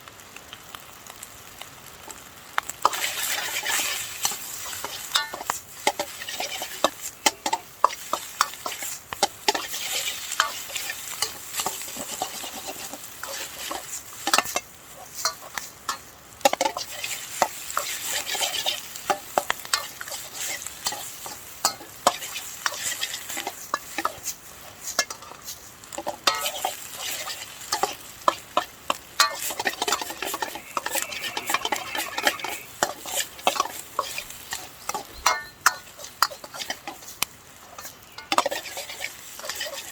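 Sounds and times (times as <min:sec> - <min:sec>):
fried rice sizzling in a wok: 0:00.0 - 0:39.9
utensil scraping against a pan: 0:02.8 - 0:39.9.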